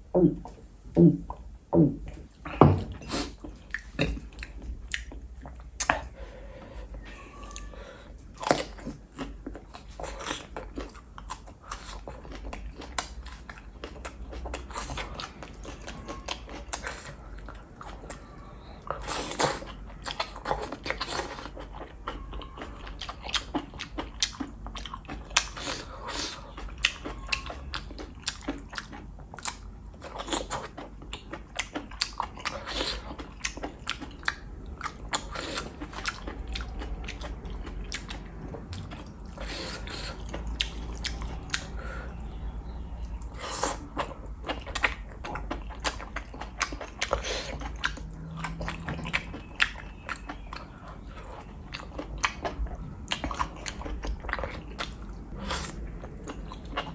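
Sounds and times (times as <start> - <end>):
wet chewing and crunching: 2.3 - 6.2, 7.4 - 56.9.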